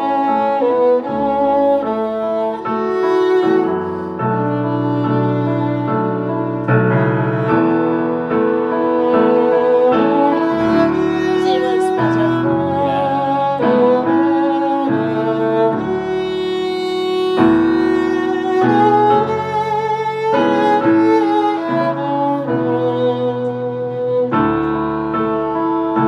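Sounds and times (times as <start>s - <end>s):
bowed string ensemble chords: 0.0s - 26.0s.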